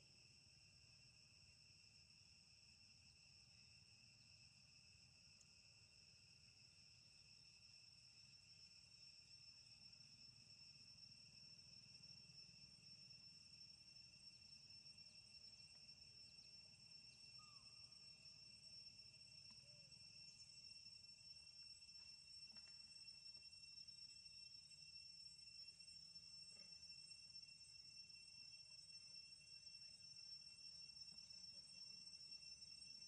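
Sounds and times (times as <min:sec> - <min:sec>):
insect chorus trilling: 0:00.0 - 0:33.0.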